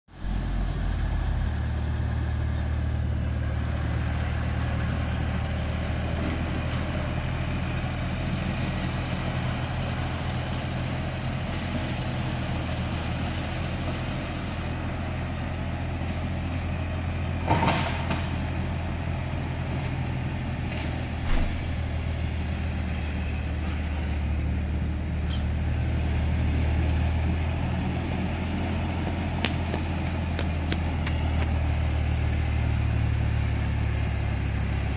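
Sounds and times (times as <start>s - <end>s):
tractor engine and mower droning: 0.1s - 34.9s.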